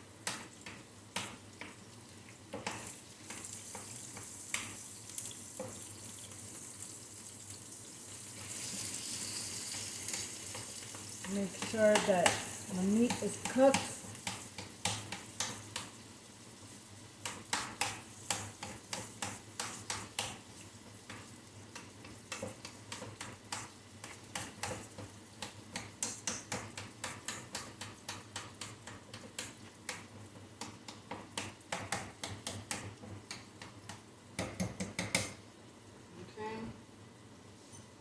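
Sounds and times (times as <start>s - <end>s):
faint meat sizzle: 0.0s - 31.7s.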